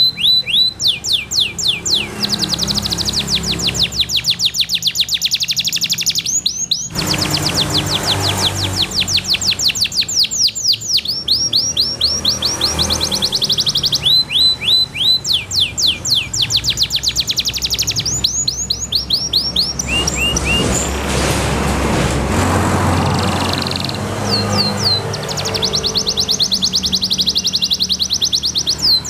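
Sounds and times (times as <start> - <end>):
canary singing trills: 0.0 - 21.1, 22.9 - 29.0.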